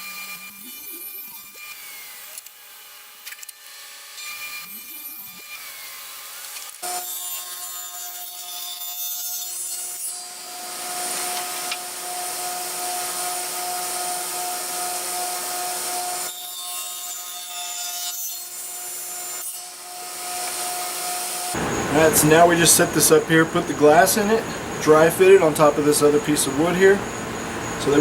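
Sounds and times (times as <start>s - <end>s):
power saw motor whine: 0.0s - 7.9s, 10.1s - 16.5s, 18.4s - 28.0s
saw cutting into wood: 0.0s - 25.7s.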